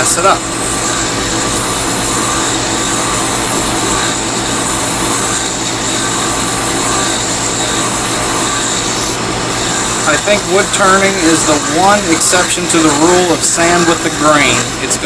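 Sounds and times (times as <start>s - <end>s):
file rasping on wood: 0.0s - 15.0s
wood lathe humming: 0.0s - 15.0s.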